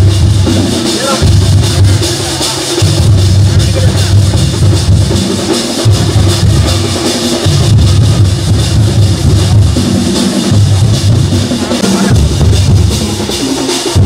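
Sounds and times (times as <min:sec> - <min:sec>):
loud drum-led music: 0:00.0 - 0:14.0.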